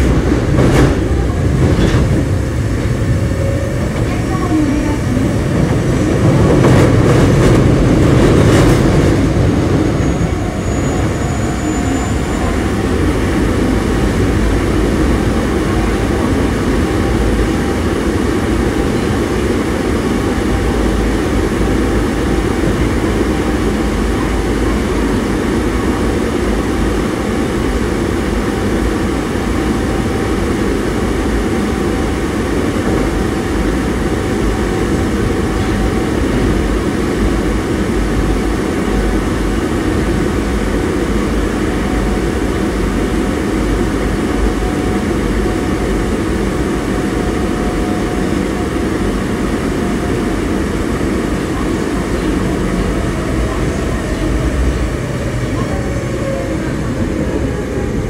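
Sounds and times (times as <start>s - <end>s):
subway train rumbling: 0.0s - 58.0s.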